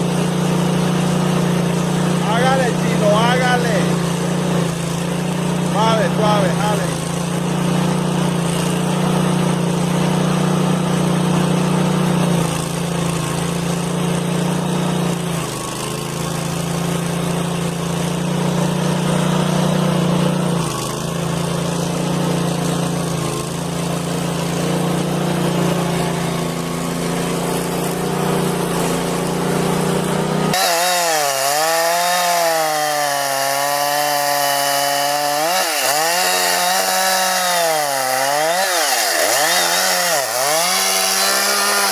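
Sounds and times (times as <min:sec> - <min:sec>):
chainsaw cutting wood: 0:00.0 - 0:41.9
saw engine with swinging pitch: 0:00.0 - 0:41.9.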